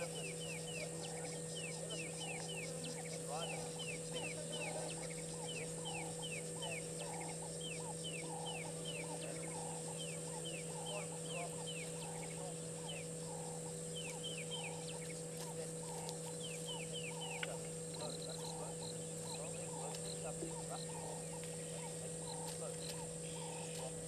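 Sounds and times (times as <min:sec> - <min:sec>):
animal chirping calls: 0:00.0 - 0:24.0
high-pitched drone: 0:00.0 - 0:24.0.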